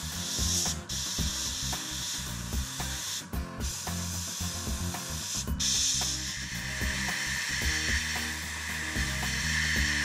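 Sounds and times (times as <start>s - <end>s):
airbrush spraying hiss: 0.0s - 10.0s
background music with beat: 0.0s - 10.0s.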